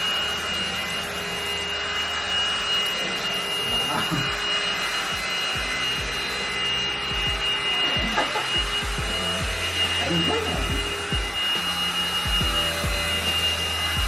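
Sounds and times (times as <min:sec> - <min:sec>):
stick vacuum whining: 0:00.0 - 0:14.0
vacuum nozzle on carpet: 0:00.0 - 0:14.0.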